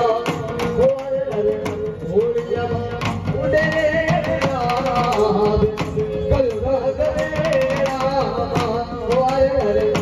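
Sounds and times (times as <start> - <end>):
drum beating a rhythm: 0.0 - 10.0.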